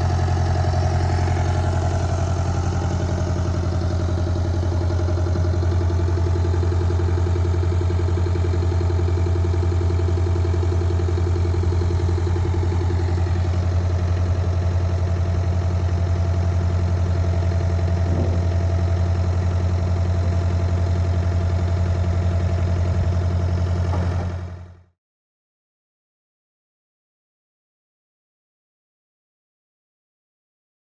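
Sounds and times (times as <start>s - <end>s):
backhoe engine idling: 0.0s - 24.9s.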